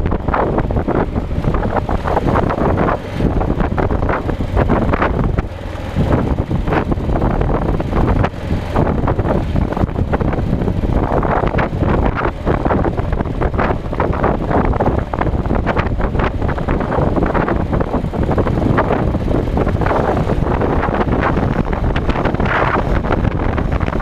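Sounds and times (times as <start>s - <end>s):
motorcycle engine: 0.0s - 24.0s
road noise: 0.0s - 24.0s
wind buffeting microphone: 0.0s - 24.0s.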